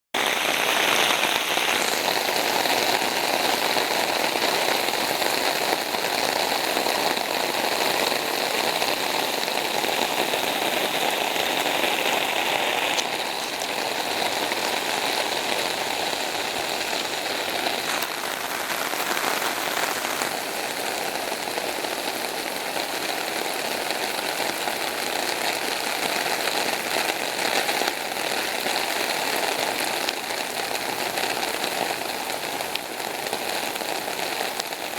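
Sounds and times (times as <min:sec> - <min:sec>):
rushing floodwater: 0:00.2 - 0:34.9.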